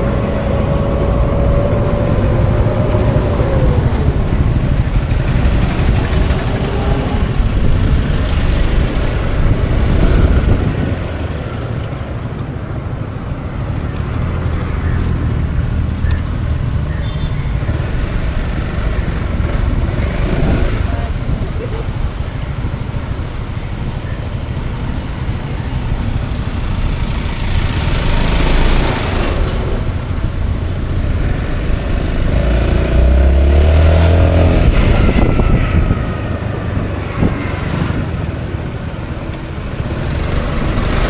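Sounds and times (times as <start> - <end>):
wind rush: 0.0 - 11.8, 18.1 - 41.0
road noise: 0.0 - 41.0
scooter engine hum: 0.0 - 41.0.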